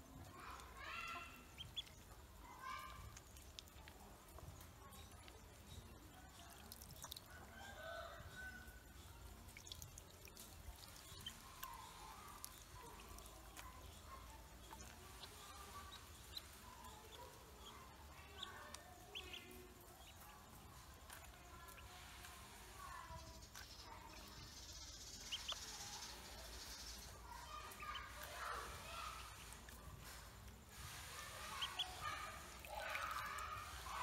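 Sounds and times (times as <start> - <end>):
water drips and splashes: 0.0 - 34.0
ducklings peeping: 0.2 - 7.3, 8.2 - 34.0.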